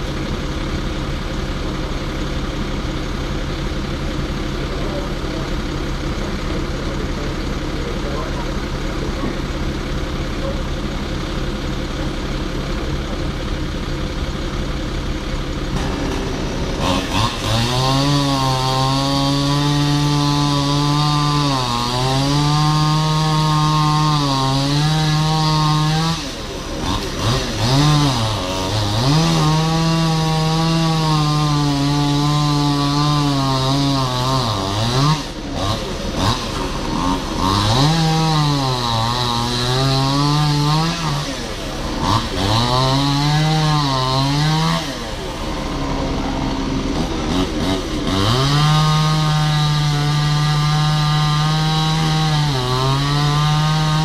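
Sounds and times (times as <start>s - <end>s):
chainsaw cutting wood: 0.0s - 54.0s
steady engine hum: 0.0s - 54.0s.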